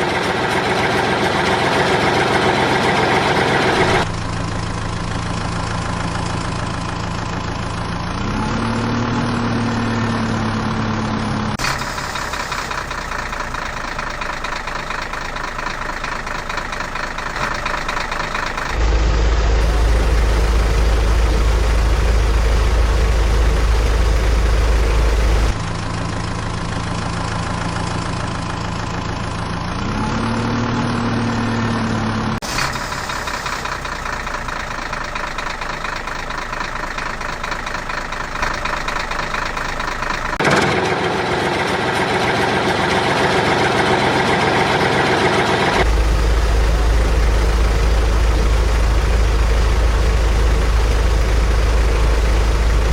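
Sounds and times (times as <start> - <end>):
heavy vehicle engine idling: 0.0 - 52.9
loud deep steady rumble: 0.0 - 52.9.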